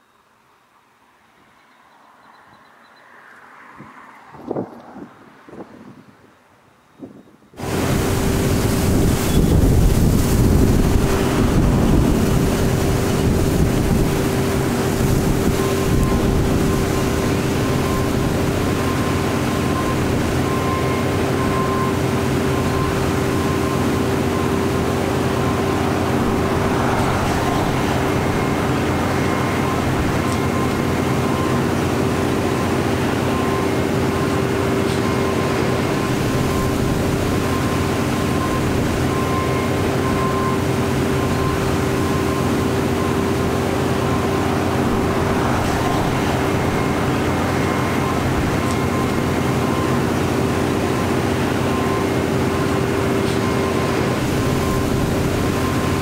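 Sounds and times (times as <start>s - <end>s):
mechanical hum: 7.6s - 56.0s
rushing noise: 7.6s - 56.0s.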